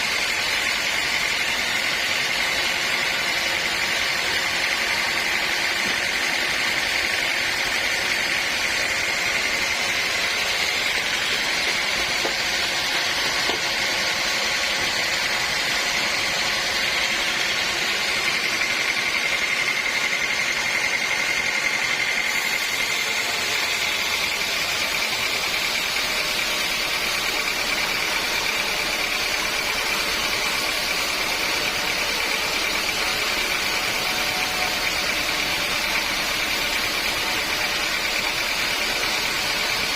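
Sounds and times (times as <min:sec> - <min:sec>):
saw running with high whine: 0:00.0 - 0:39.9.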